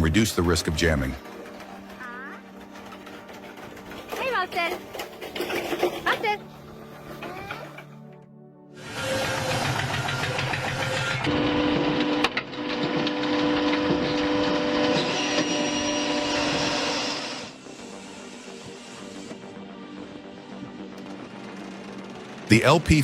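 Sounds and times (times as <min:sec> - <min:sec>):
wood-processing machinery humming: 0:00.0 - 0:08.2, 0:08.8 - 0:23.0.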